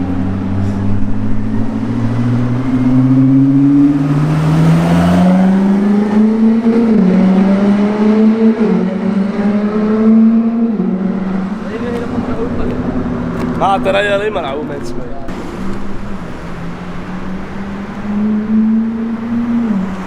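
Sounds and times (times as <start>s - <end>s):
car engine accelerating with upshifts: 0.0s - 20.0s.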